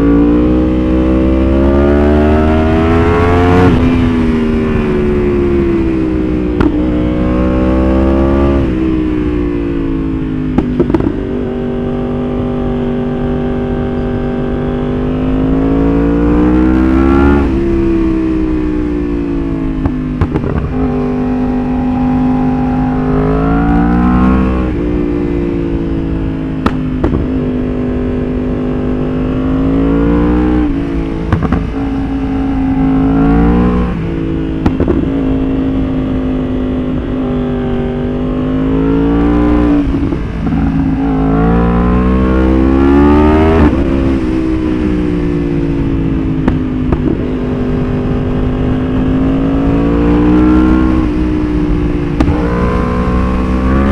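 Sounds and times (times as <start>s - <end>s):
sport bike engine revving: 0.0s - 53.9s
exhaust pops and crackles: 2.3s - 11.7s, 16.6s - 37.4s, 39.1s - 53.9s.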